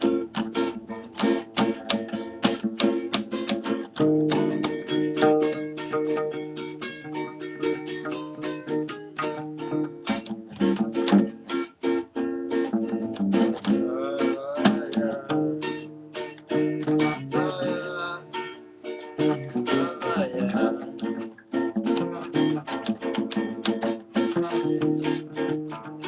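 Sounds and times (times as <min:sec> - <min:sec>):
acoustic bass guitar low notes: 0:00.0 - 0:26.0
acoustic guitar strumming: 0:00.0 - 0:26.0.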